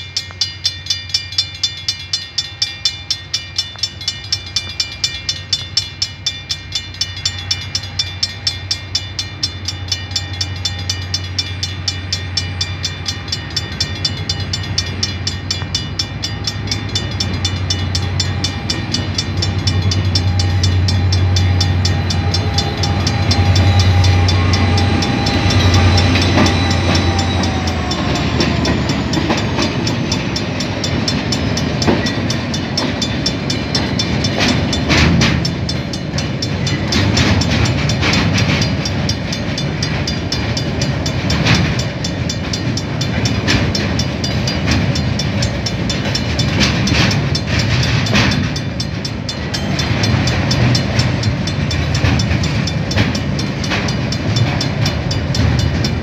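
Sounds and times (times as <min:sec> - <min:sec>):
diesel locomotive engine drone: 0:00.0 - 0:56.0
level-crossing bell ringing: 0:00.0 - 0:56.0.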